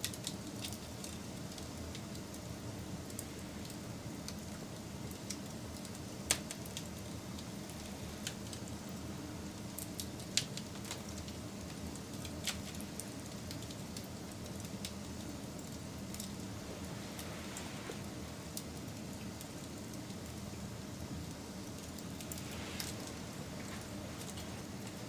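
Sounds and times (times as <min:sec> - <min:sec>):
low rush of burning fire: 0:00.0 - 0:25.0
wood fire crackling and popping: 0:00.0 - 0:25.0.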